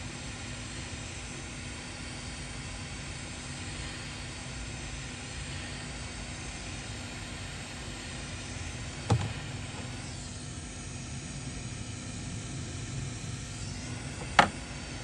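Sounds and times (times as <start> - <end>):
hot air blower hissing: 0.0 - 15.0.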